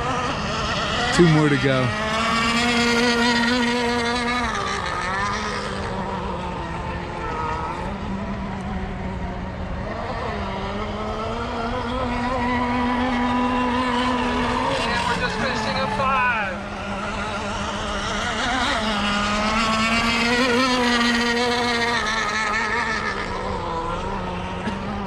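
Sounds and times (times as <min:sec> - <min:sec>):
racing boat engines whining: 0:00.0 - 0:25.0.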